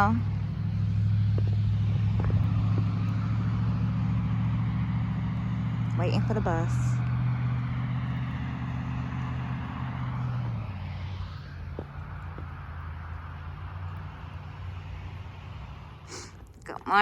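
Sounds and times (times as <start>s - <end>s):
vehicle engine humming: 0.0s - 17.0s
traffic hiss: 0.1s - 16.5s.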